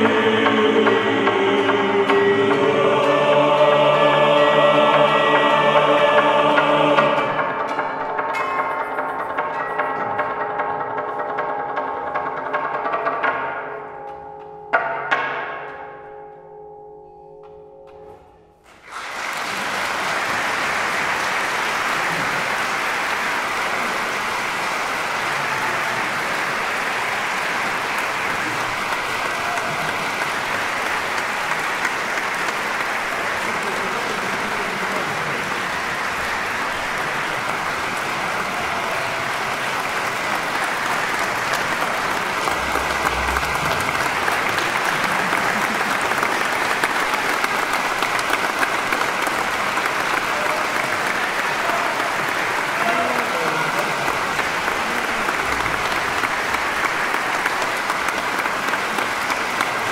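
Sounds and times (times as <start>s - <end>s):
audience applauding: 0.0s - 9.2s, 18.7s - 59.9s.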